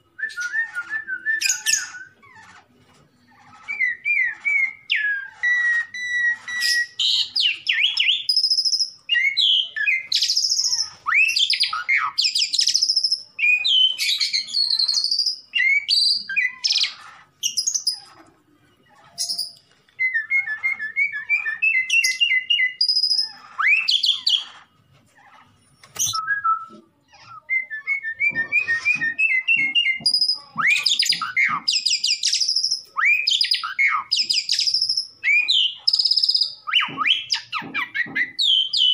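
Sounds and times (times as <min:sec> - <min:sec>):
starling singing: 0:00.0 - 0:38.9.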